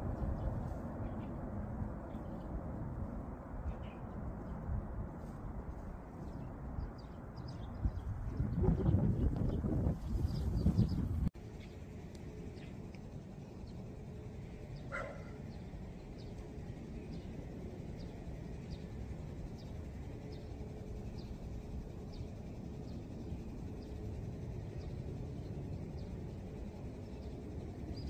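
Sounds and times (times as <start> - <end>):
low outdoor rumble: 0.0 - 28.0.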